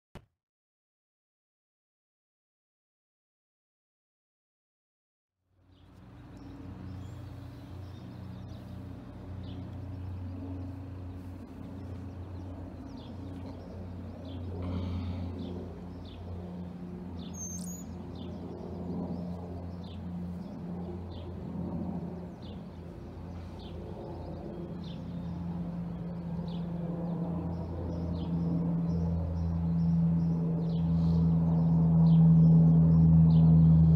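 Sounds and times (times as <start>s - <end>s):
aircraft engines droning overhead: 5.5s - 33.9s
birds chirping: 5.7s - 33.9s.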